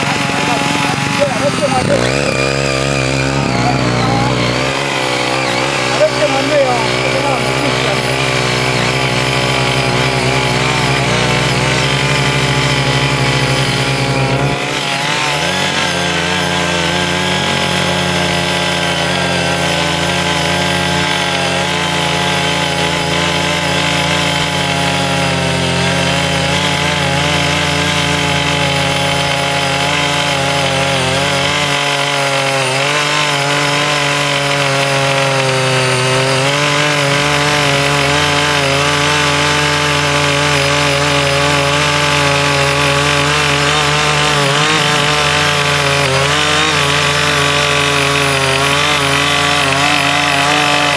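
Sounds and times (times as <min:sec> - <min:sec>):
small petrol engine running: 0:00.0 - 0:50.9
tiller tines churning soil: 0:00.0 - 0:50.9.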